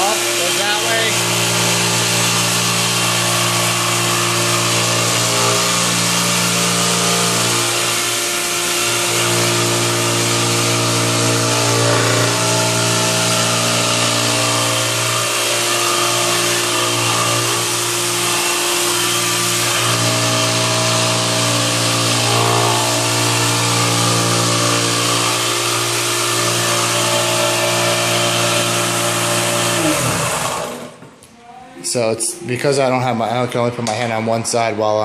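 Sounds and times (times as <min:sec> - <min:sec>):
floor sander motor hum: 0:00.0 - 0:31.2.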